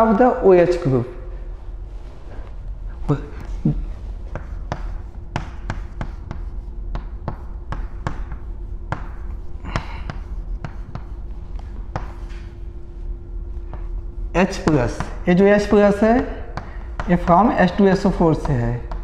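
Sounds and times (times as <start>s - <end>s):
faint steady hum: 0.0s - 19.0s
chalk tapping and scratching: 3.4s - 19.0s.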